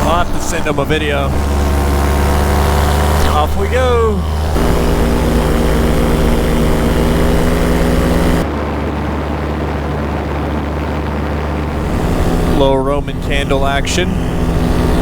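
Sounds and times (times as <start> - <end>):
paramotor engine and propeller: 0.0 - 15.0.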